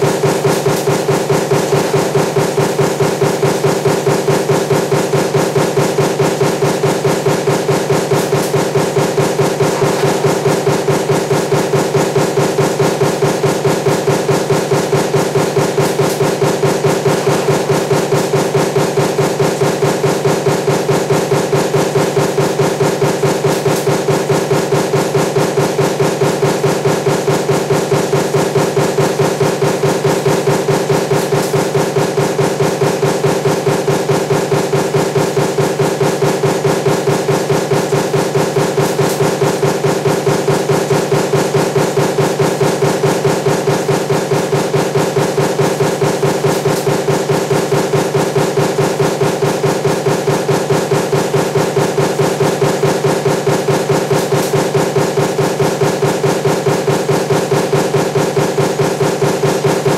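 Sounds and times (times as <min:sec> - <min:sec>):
machine hum: 0:00.0 - 0:59.9
power press stamping: 0:00.0 - 0:59.9.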